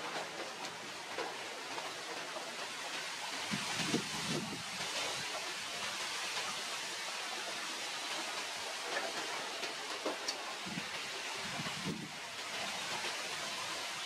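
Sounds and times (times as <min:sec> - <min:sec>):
hissing outdoor background noise: 0:00.0 - 0:14.0.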